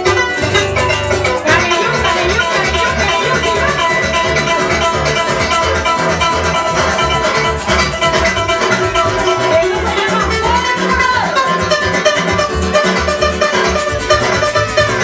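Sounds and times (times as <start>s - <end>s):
electric bass line: 0.0s - 15.0s
harp plucking: 0.0s - 15.0s
maracas shaking: 0.0s - 15.0s
small guitar strumming: 0.0s - 15.0s.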